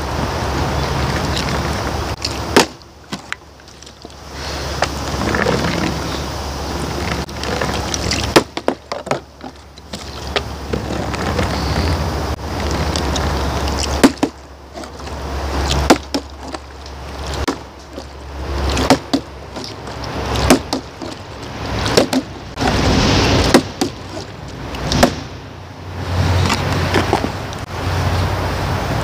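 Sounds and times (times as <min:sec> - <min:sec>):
wind gusting on microphone: 0:00.0 - 0:08.4, 0:09.2 - 0:29.0.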